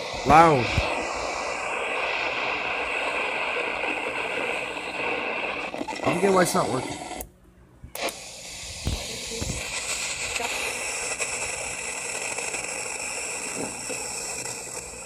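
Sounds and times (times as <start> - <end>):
radio static hiss: 0.0 - 7.2, 8.0 - 15.0.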